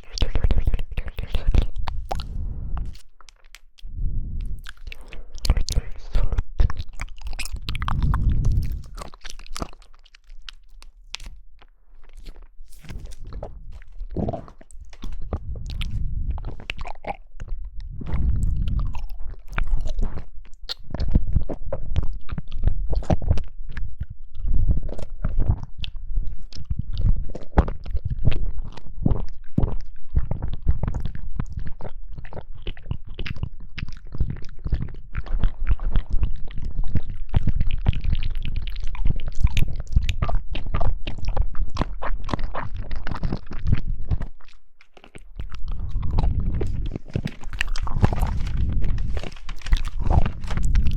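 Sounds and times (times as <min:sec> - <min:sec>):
wet squishy chewing: 0:00.0 - 0:50.9.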